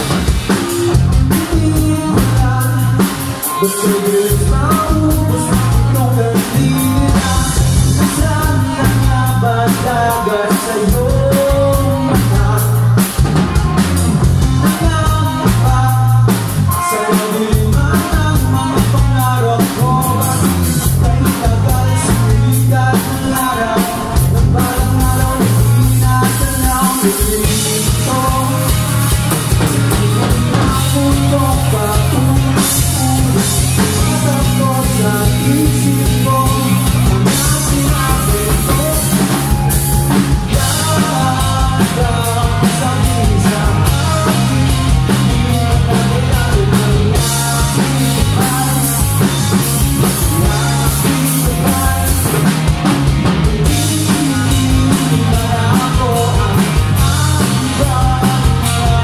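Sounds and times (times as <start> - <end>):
drum kit beat: 0.0 - 59.0
live rock band playing: 0.0 - 59.0.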